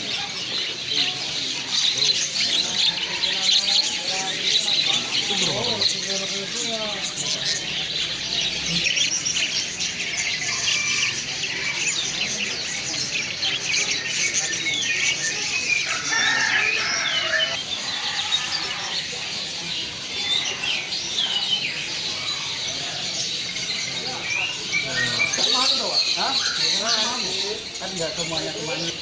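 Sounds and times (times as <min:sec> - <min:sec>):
songbirds chirping and singing: 0:00.0 - 0:29.0.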